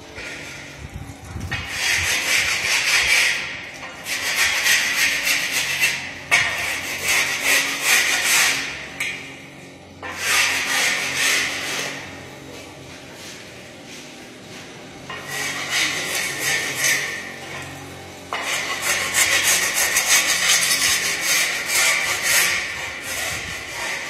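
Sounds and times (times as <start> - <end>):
hand tool scraping hard surface: 0.1 - 0.8, 1.4 - 9.3, 10.0 - 24.0.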